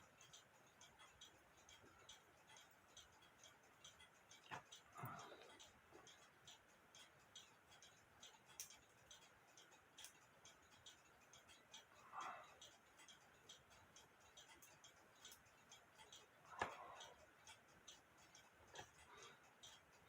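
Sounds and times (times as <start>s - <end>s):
clock movement ticks and clicks: 0.0s - 20.0s.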